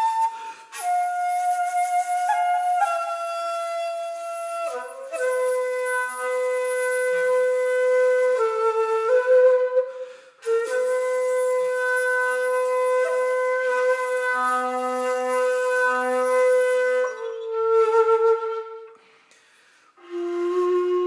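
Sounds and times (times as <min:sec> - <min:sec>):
breathy bamboo flute: 0:00.0 - 0:21.0.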